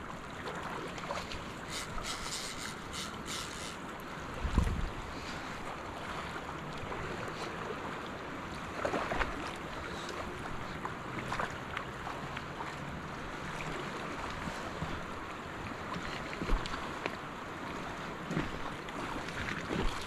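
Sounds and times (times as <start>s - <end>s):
creek water flowing: 0.0s - 20.0s
wind: 0.0s - 20.0s.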